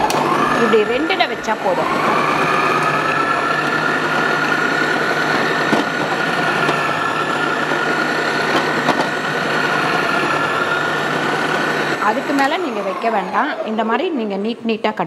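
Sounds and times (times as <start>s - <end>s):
mixer grinder motor whining: 0.0s - 15.0s.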